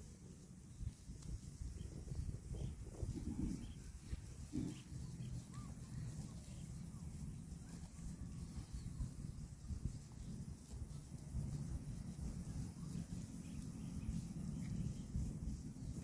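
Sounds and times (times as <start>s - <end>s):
cow tearing and chewing grass: 0.0s - 16.0s.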